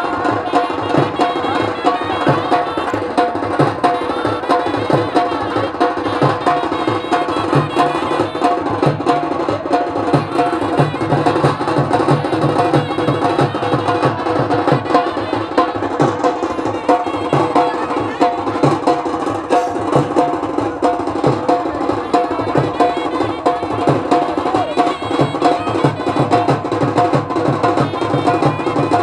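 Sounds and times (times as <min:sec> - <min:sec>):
drums beating fast rhythm: 0:00.0 - 0:29.0.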